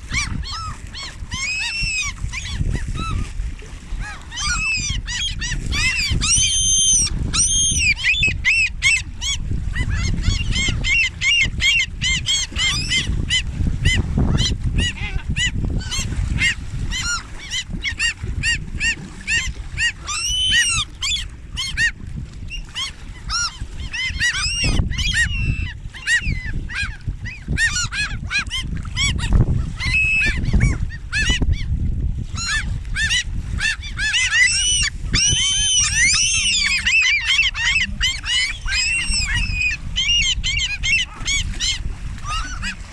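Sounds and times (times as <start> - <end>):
wind rumble on microphone: 0.0 - 42.9
flock of birds calling: 0.1 - 3.2, 4.0 - 14.0, 16.9 - 21.9, 22.5 - 29.2, 32.4 - 42.9.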